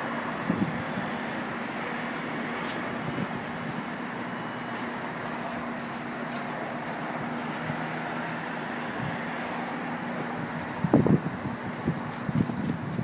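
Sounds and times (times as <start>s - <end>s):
heavy vehicle engine humming: 0.0s - 13.0s.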